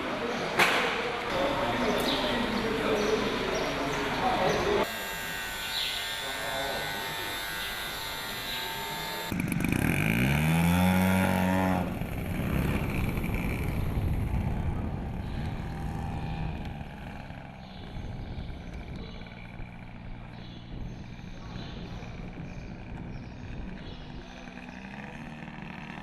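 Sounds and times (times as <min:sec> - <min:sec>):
model aircraft engine whine: 0:01.4 - 0:26.0.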